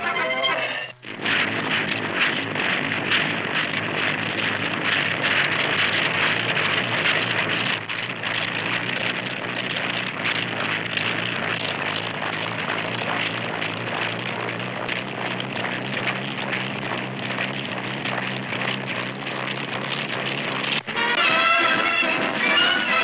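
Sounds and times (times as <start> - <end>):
machine engine running: 0.0 - 23.0.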